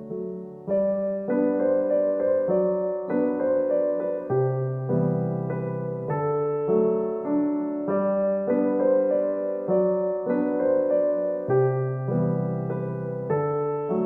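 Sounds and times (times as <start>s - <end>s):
gentle piano tune: 0.0s - 14.0s.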